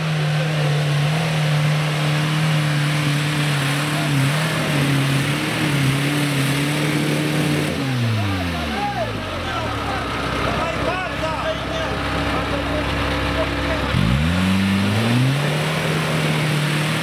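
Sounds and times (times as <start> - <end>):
off-road engine at high revs: 0.0 - 17.0.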